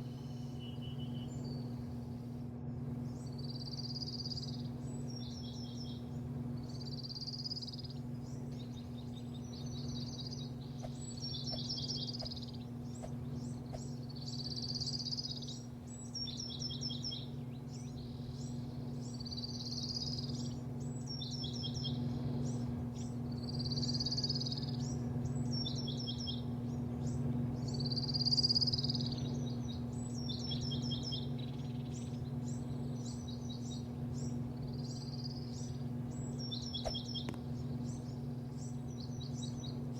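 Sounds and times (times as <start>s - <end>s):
bird chirping phrase: 0.0s - 2.2s, 3.0s - 39.9s
steady low machine hum: 0.0s - 39.9s.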